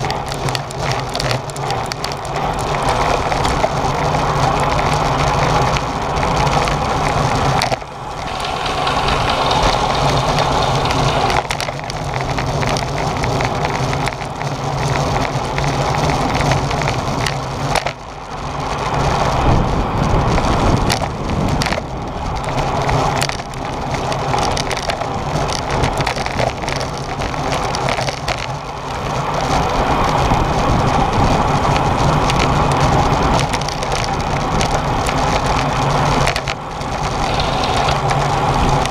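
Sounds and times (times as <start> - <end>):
crackling rattles: 0.0 - 38.9
road rumble: 0.0 - 38.9
wind rushing over microphone: 0.0 - 38.9.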